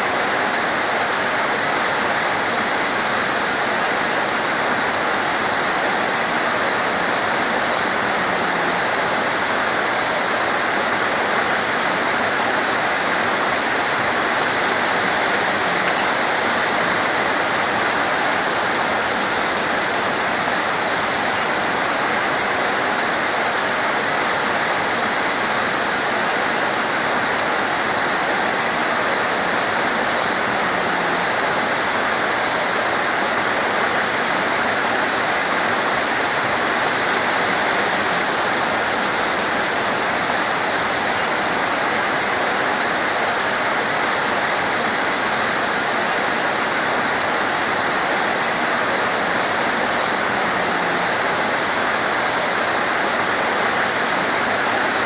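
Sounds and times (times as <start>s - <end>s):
heavy rain downpour: 0.0s - 55.0s.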